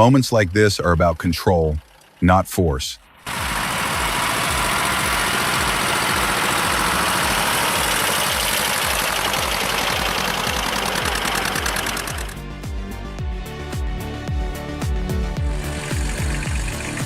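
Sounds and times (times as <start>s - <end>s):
heavy vehicle engine running: 0.0s - 12.4s, 15.1s - 17.0s.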